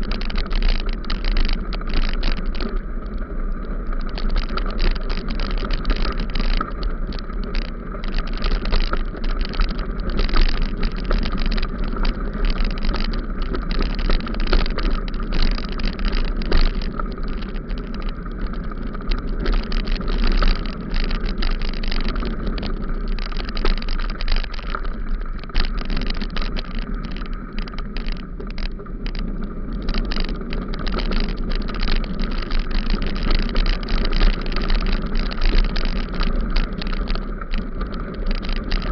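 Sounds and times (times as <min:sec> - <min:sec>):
bicycle rattling on dirt road: 0:00.0 - 0:38.9
wind rumbling on microphone: 0:00.0 - 0:38.9.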